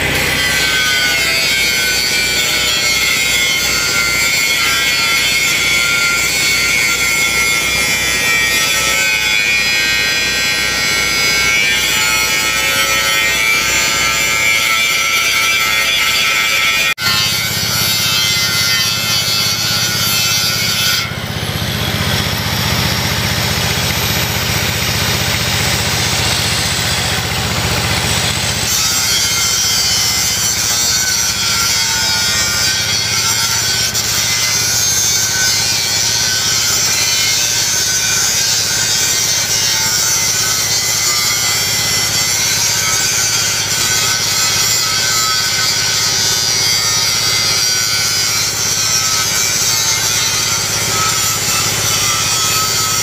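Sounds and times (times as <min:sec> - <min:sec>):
angle grinder grinding steel: 0:00.0 - 0:53.0.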